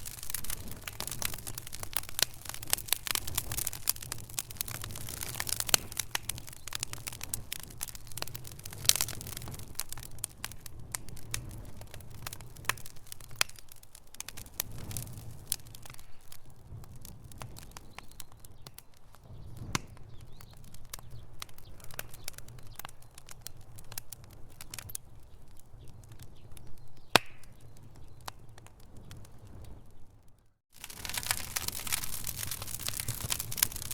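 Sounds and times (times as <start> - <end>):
low rumble of flames: 0.0 - 33.9
wood fire crackling and popping: 0.0 - 33.9.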